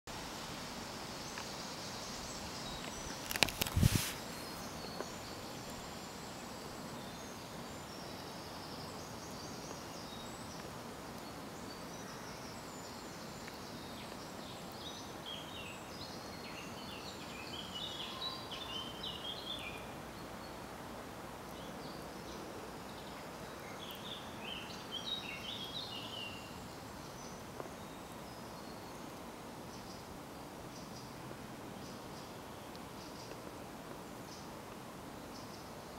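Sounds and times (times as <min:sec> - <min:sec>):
small birds singing: 0:01.0 - 0:33.6, 0:34.2 - 0:35.9.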